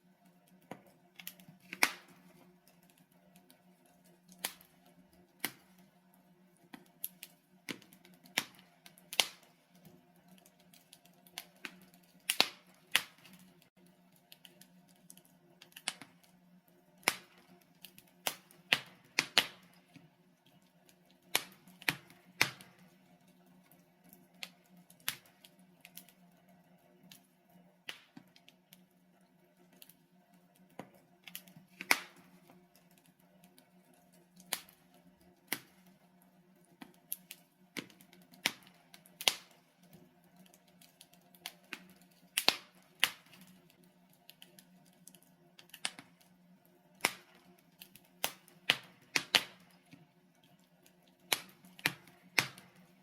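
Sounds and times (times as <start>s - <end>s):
logs crackling in a fireplace: 0.0s - 53.0s.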